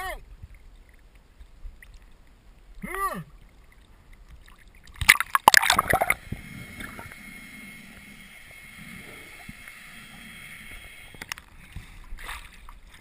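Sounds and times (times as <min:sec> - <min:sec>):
water splashing and rushing: 0:00.0 - 0:07.2, 0:08.7 - 0:13.0
underwater wash with gurgles: 0:00.0 - 0:13.0.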